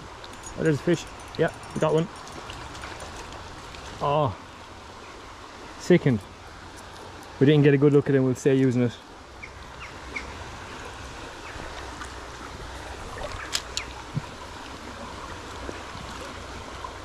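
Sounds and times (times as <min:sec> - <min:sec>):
river water over rapids: 0:00.0 - 0:17.0.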